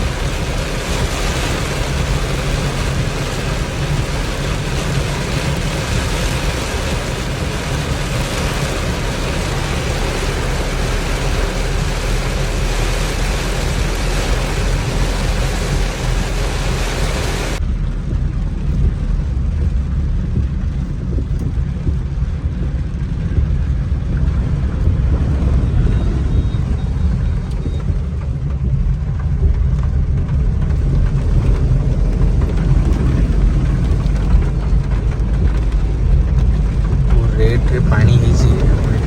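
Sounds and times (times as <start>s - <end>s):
vehicle interior rumble: 0.0s - 39.0s.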